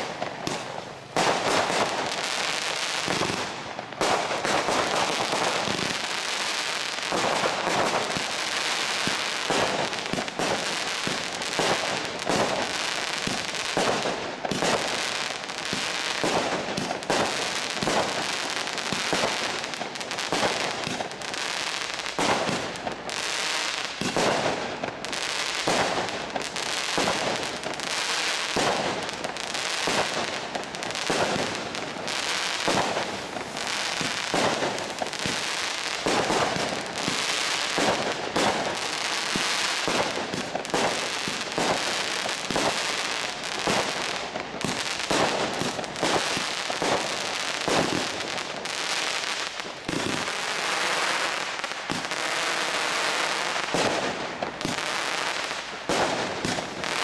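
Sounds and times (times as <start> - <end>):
fireworks launching and bursting: 0.0 - 57.0.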